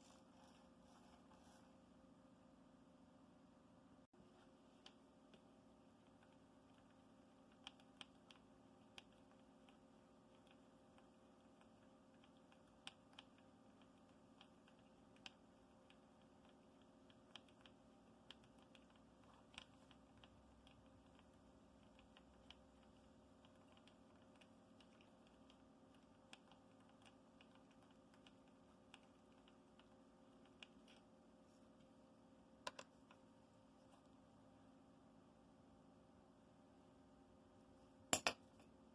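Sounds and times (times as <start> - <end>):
faint room hum: 0.0 - 38.9.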